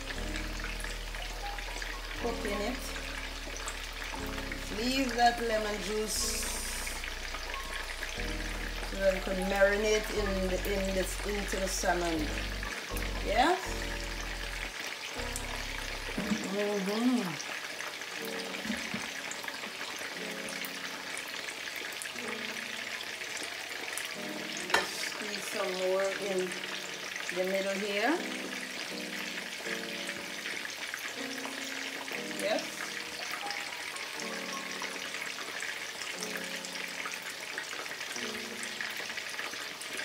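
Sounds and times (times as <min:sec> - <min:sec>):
fish sizzling in a frying pan: 0:00.0 - 0:40.0.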